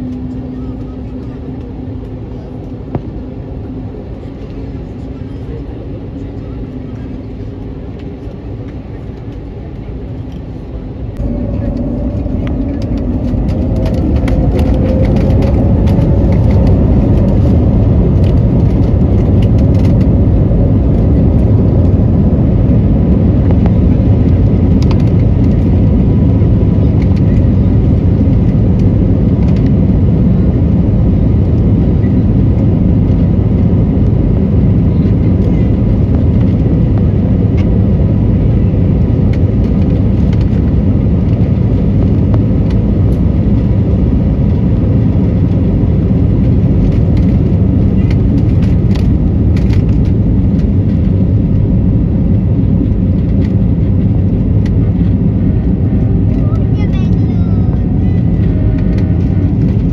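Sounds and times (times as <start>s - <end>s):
jet engine rumble: 0.0s - 59.9s
jet engine whine: 0.0s - 59.9s.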